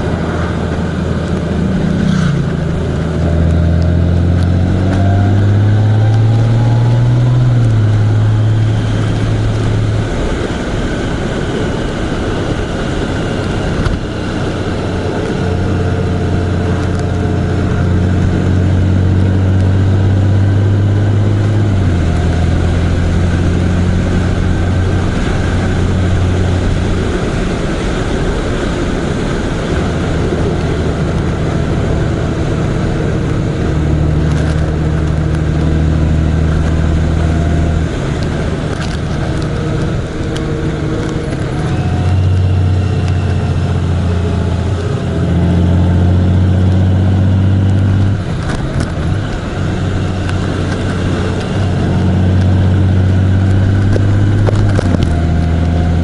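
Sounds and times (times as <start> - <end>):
road and wind rush: 0.0 - 56.0
vehicle engine hum: 0.0 - 56.0.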